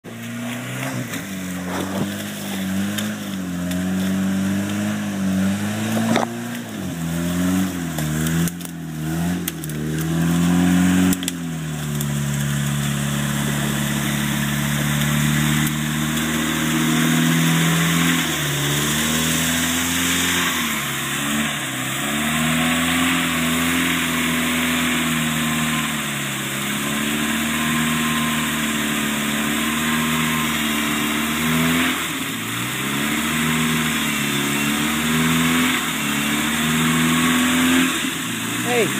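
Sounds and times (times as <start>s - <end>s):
engine revving: 0.0s - 38.9s
water churning around tyres: 0.0s - 38.9s.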